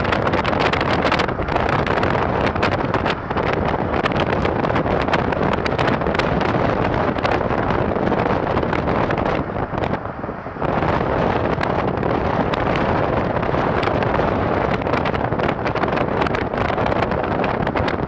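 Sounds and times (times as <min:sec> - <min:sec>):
car road noise: 0:00.0 - 0:18.0
wind buffeting microphone: 0:00.0 - 0:18.0.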